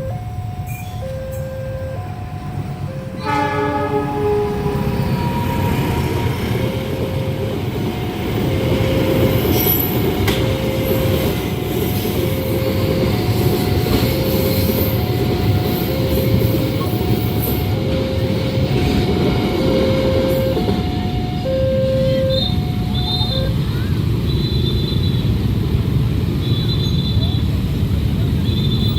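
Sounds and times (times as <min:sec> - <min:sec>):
two-tone crossing warning alarm: 0:00.0 - 0:25.3
train wheels rumbling on rail: 0:00.0 - 0:28.9.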